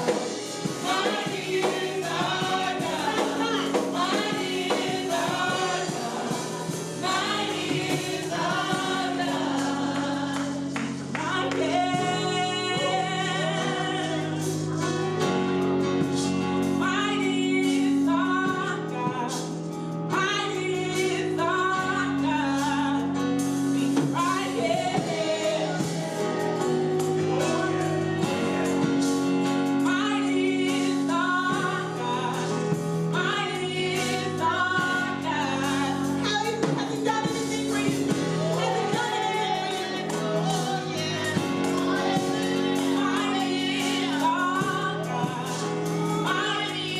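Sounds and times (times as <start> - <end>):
gospel worship singing: 0.0 - 46.9
instrumental accompaniment with beat: 0.0 - 46.9.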